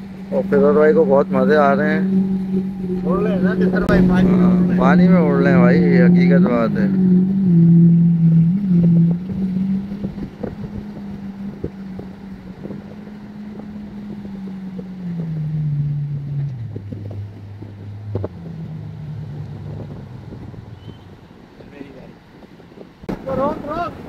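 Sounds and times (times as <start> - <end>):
jet ski engine running: 0.0 - 24.0
wind on microphone: 0.0 - 24.0.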